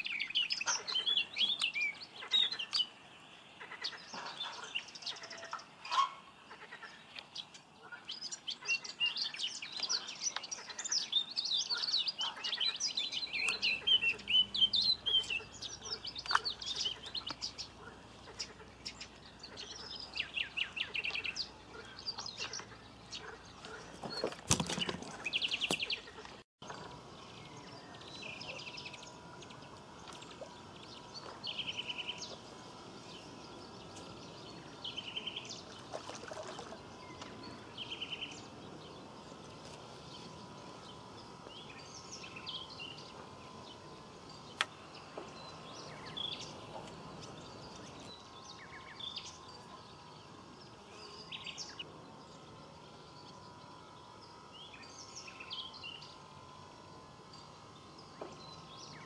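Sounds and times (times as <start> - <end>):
birds trilling: 0.0 - 59.0
outdoor background noise: 0.0 - 59.0.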